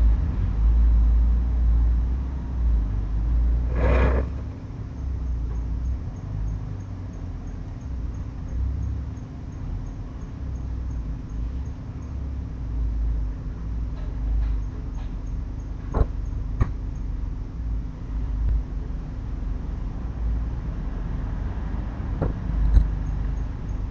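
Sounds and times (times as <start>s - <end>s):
low background rumble: 0.0s - 23.9s
low hum: 0.0s - 23.9s.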